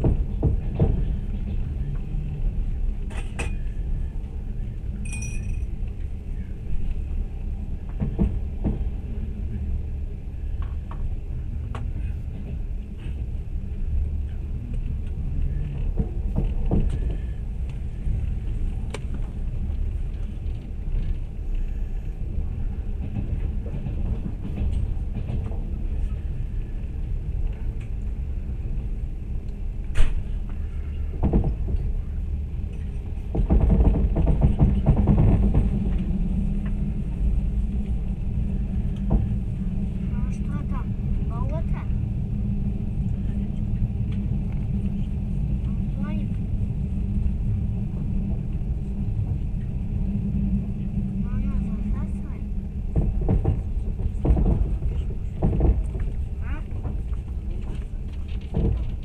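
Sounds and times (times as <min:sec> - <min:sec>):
train rumbling inside carriage: 0:00.0 - 0:59.0.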